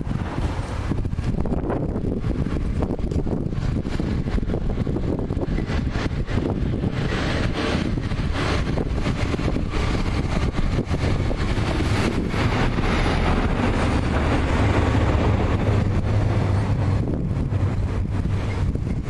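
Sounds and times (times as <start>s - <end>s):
low rumble: 0.0s - 19.0s
steam locomotive running: 0.0s - 19.0s
wind buffeting microphone: 0.0s - 19.0s.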